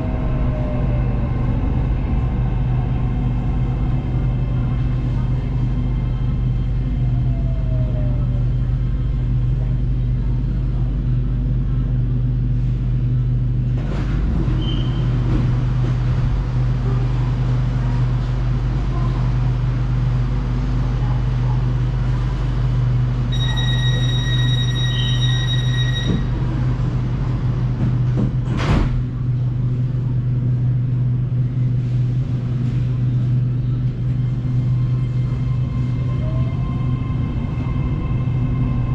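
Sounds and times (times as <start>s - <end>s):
electric train rumbling: 0.0s - 38.9s.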